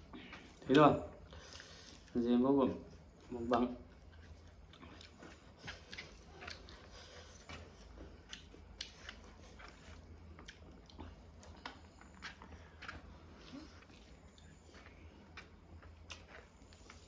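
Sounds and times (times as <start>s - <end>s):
person chewing food: 0.0s - 2.2s, 2.9s - 17.0s.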